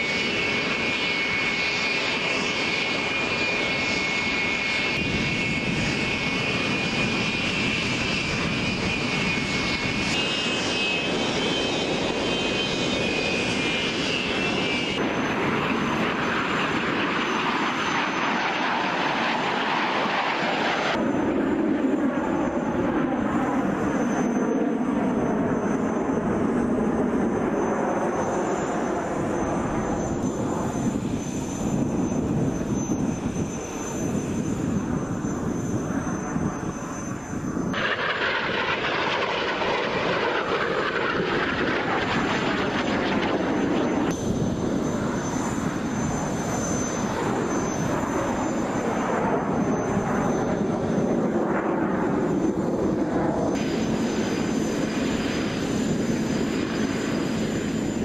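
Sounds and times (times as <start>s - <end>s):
biplane engine running: 0.0s - 58.0s
jet formation passing overhead: 0.0s - 58.0s
jets taxiing: 0.0s - 58.0s.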